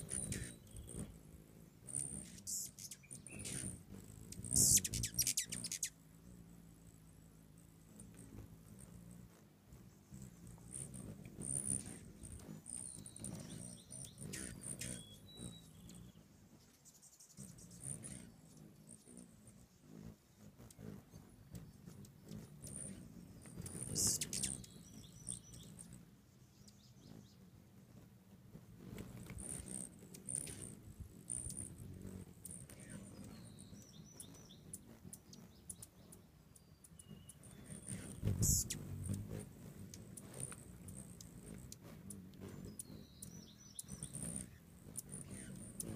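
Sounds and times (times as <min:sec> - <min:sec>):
hummingbird wings buzzing: 0:00.0 - 0:45.9
hummingbirds squeaking: 0:00.0 - 0:45.9.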